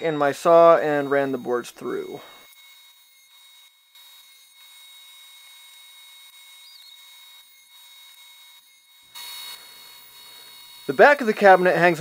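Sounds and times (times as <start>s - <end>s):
table saw high hiss: 0.0s - 5.0s, 5.8s - 12.0s.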